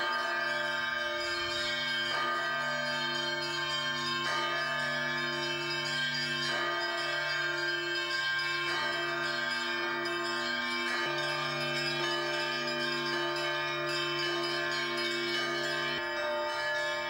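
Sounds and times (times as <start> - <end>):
cathedral bells ringing: 0.0 - 17.0
low bell hum: 0.0 - 17.0.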